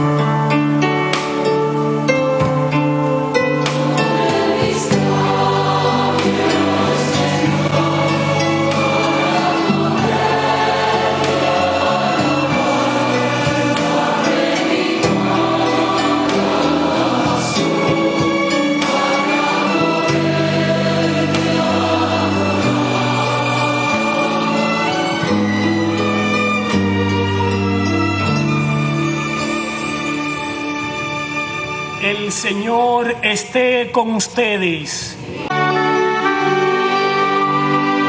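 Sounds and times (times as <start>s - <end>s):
choir singing sacred music: 1.8s - 32.5s, 35.1s - 38.0s.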